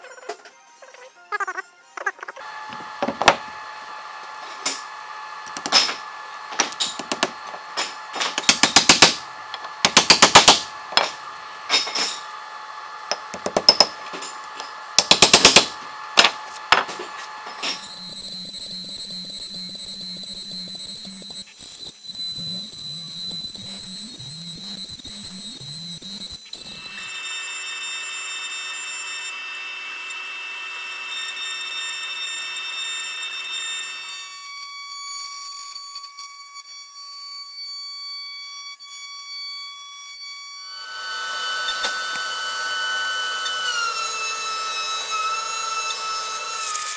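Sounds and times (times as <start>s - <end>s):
router spindle whining: 1.8s - 46.9s
end mill cutting aluminum: 2.4s - 38.6s, 39.5s - 46.9s.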